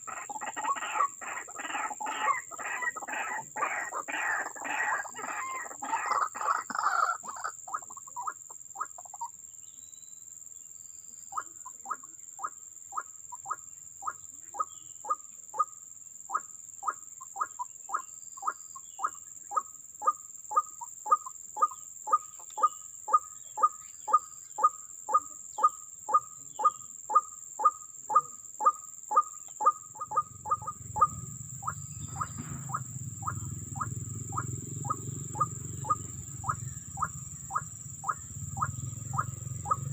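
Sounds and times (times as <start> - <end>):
bird fast chattering: 0.0 - 9.3, 16.3 - 39.9.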